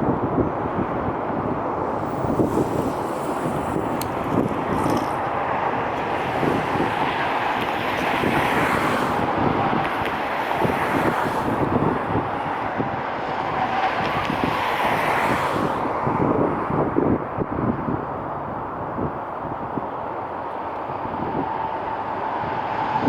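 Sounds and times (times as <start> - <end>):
steady outdoor rumble: 0.0 - 23.0
wind buffeting microphone: 0.0 - 23.0.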